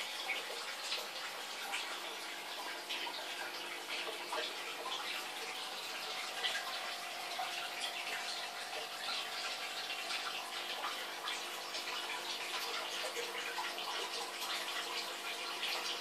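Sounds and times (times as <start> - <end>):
aquarium water rushing and splashing: 0.0 - 16.0.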